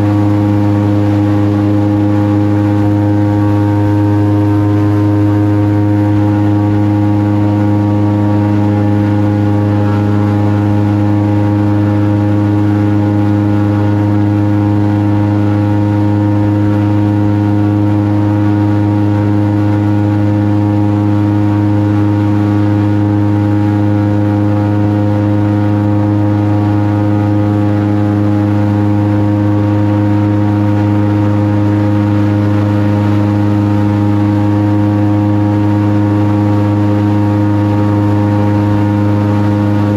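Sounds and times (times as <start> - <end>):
airboat engine and propeller drone: 0.0 - 39.9.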